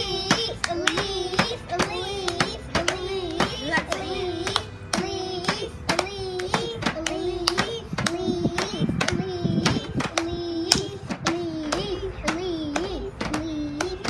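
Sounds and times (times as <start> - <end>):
children singing: 0.0 - 14.0
hands clapping in rhythm: 0.0 - 14.0.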